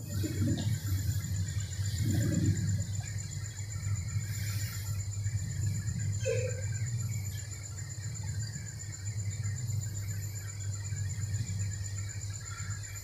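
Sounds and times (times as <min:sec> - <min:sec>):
cricket trilling: 0:00.0 - 0:13.0
low hum: 0:00.0 - 0:13.0.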